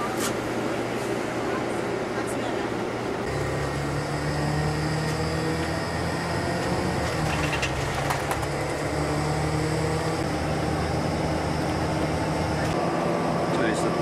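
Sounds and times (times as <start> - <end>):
bus engine running: 0.0 - 14.0
road noise: 0.0 - 14.0.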